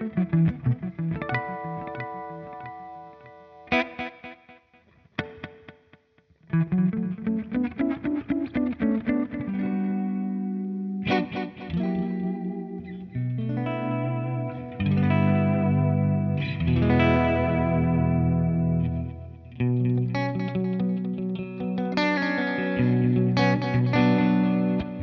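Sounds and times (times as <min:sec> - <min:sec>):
electric guitar chords with delay: 0:00.0 - 0:25.0.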